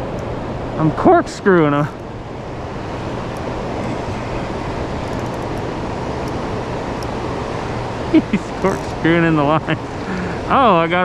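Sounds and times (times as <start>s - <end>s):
fast-flowing water rushing: 0.3s - 11.0s.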